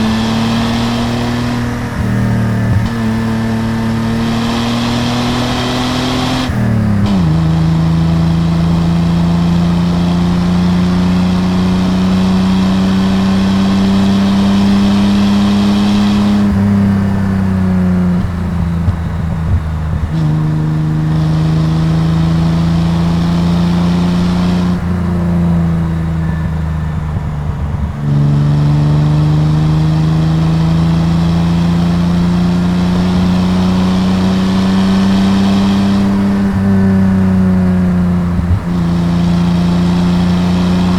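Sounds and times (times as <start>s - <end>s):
car engine and exhaust revving: 0.0s - 40.9s.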